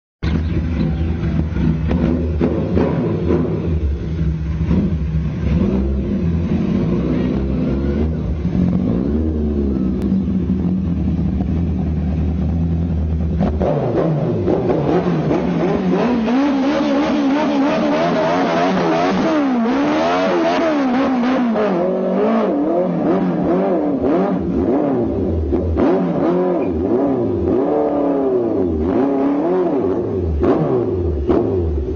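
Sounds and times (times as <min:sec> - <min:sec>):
car engine idling and revving: 0:00.2 - 0:31.9.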